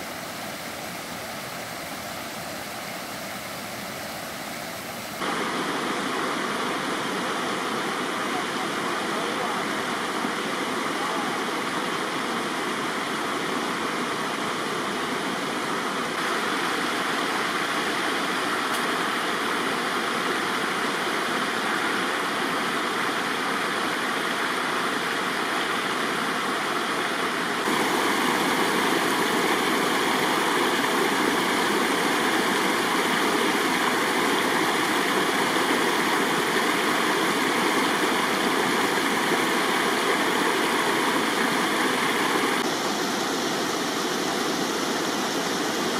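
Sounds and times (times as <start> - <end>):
stream cascading over rocks: 0.0 - 45.9.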